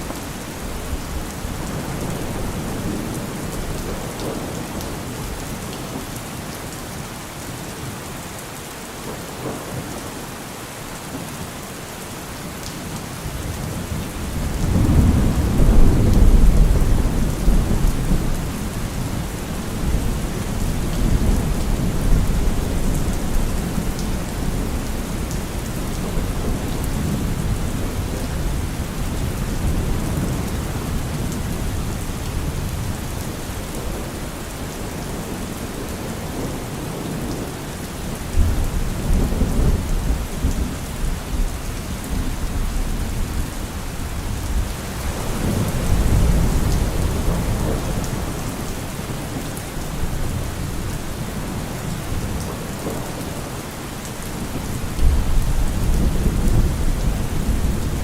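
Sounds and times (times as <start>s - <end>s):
rolling thunder rumbling: 0.0s - 5.4s, 13.3s - 37.5s, 38.3s - 53.6s, 54.2s - 58.0s
steady rain falling: 0.0s - 58.0s.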